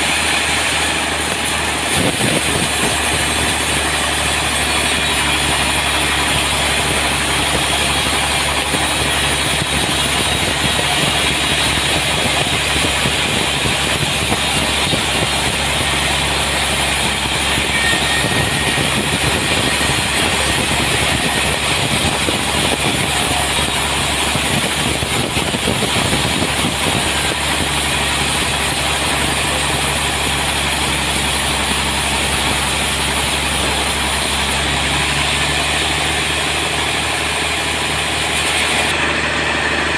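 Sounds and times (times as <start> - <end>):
sawmill cutting a log: 0.0 - 39.9.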